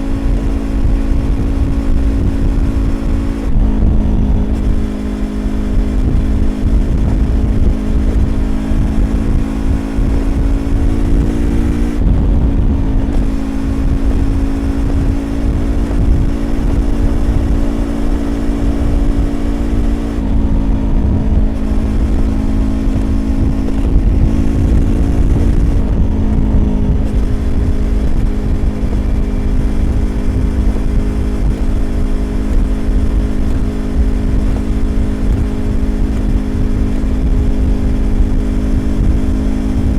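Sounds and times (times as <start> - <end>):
motorcycle engine cruising: 0.0 - 39.9
wind and road rumble: 0.0 - 39.9.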